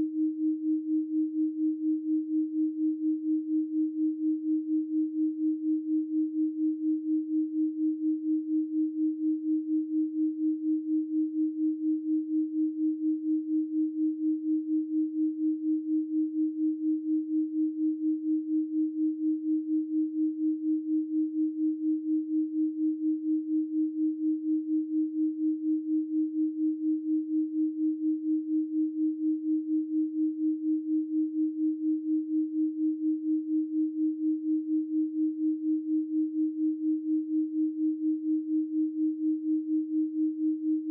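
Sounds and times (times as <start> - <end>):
pulsing pure sine tone: 0.0 - 40.9.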